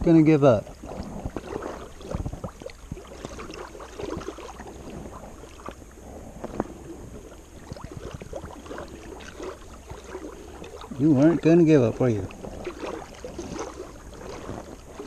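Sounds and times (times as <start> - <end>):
faint low rumble: 0.0 - 15.0.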